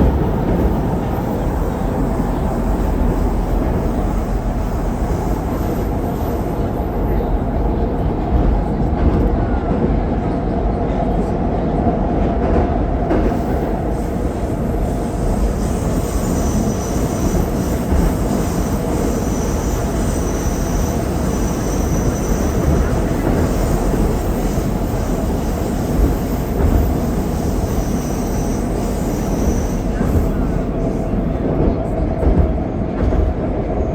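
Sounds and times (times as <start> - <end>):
wheels rumbling on rail: 0.0 - 33.9.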